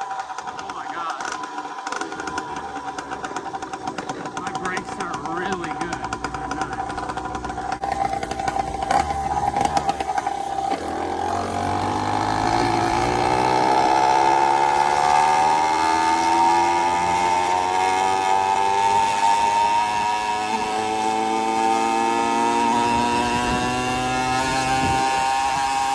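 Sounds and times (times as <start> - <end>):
two-stroke engine accelerating: 0.0 - 25.9.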